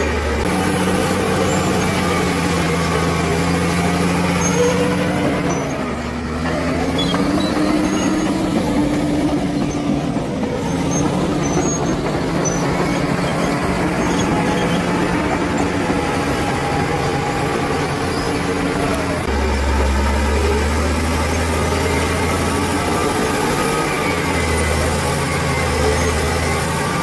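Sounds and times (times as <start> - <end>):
bulldozer diesel engine droning: 0.0 - 27.0.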